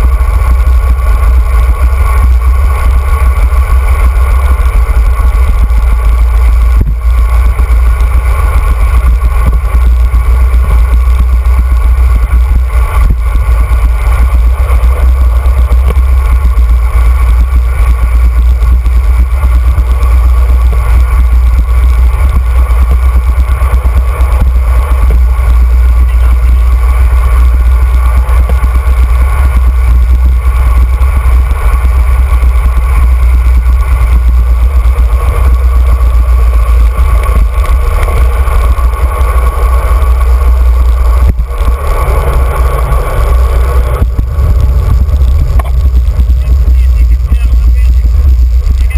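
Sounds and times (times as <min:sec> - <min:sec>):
wind buffeting microphone: 0:04.2 - 0:48.9.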